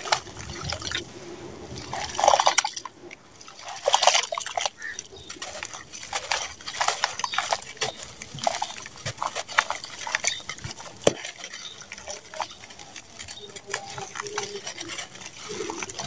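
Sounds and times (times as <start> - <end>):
dry cement crumbling: 0.0 - 1.1, 3.5 - 16.0.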